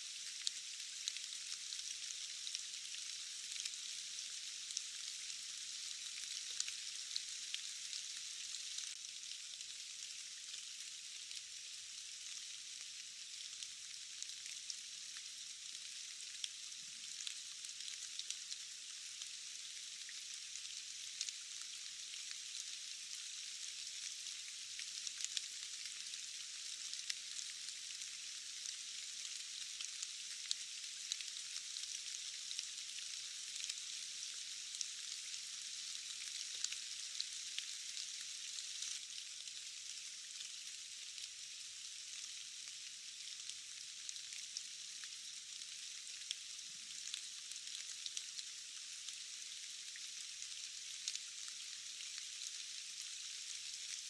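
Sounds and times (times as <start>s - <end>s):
steady rain with drop ticks: 0.0s - 54.0s.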